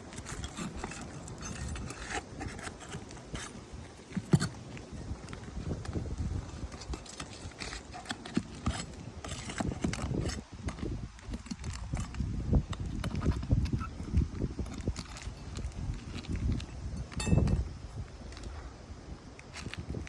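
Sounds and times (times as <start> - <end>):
hand tools on roof shingles: 0.0 - 17.7.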